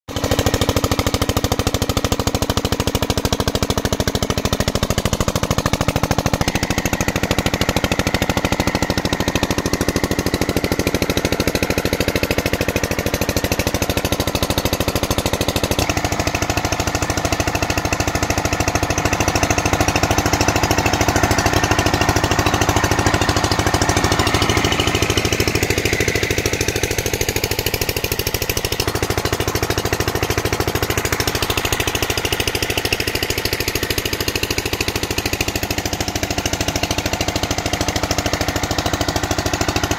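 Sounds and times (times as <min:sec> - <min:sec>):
diesel engine knocking: 0:00.1 - 0:39.9.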